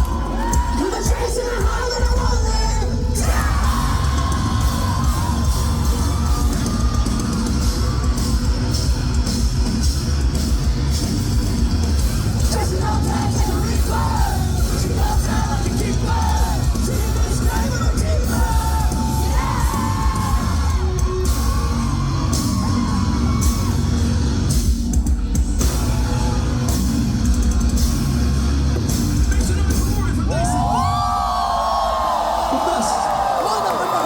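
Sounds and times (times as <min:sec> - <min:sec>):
rock band playing live: 0:00.0 - 0:30.8.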